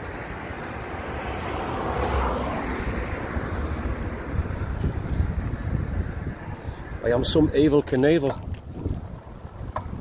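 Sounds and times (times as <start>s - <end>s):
vehicle passing on road: 0.0s - 10.0s
wind rumble on microphone: 0.9s - 10.0s.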